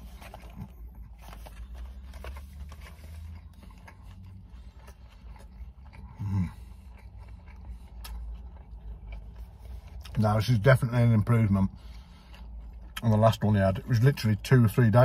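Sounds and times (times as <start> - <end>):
person chewing: 0.0 - 13.4
low steady hum: 0.0 - 15.0.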